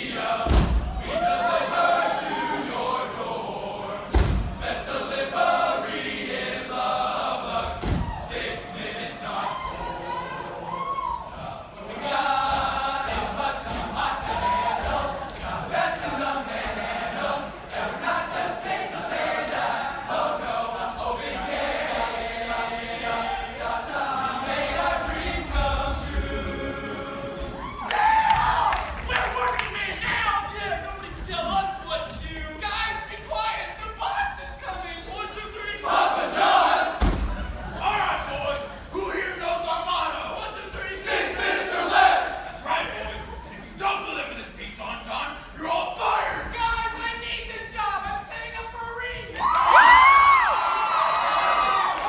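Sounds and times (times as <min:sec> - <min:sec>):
male choir singing in harmony: 0:00.0 - 0:46.5.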